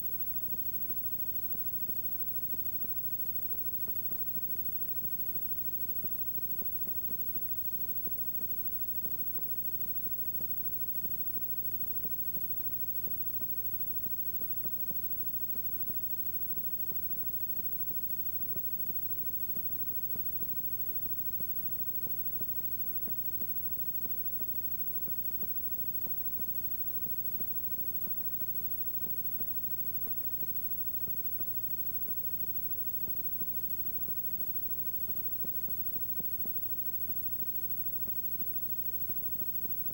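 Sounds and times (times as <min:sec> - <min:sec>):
buzzing hum: 0:00.0 - 0:39.9
faint crackle ticks: 0:00.0 - 0:39.9
tape hiss: 0:00.0 - 0:39.9.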